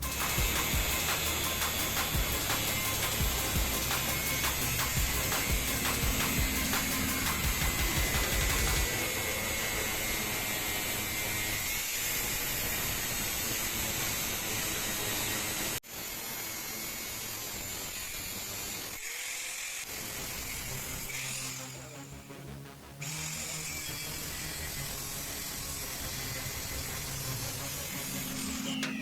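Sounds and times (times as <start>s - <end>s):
small power tool whirring: 0.0s - 21.8s, 23.0s - 29.0s.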